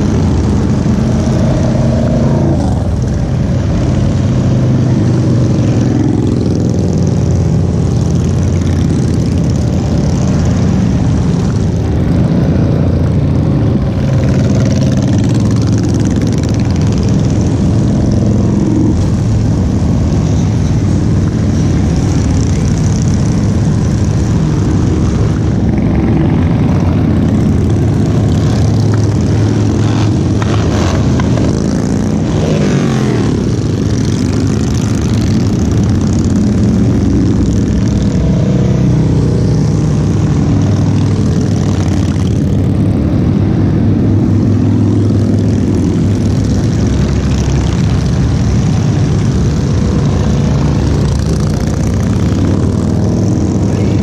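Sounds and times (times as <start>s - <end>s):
motorcycles riding past: 0.0s - 54.0s.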